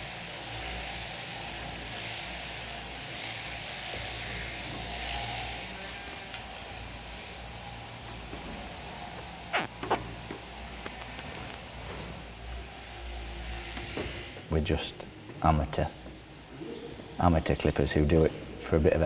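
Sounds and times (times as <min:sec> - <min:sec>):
electric shearing machine running: 0:00.0 - 0:19.0.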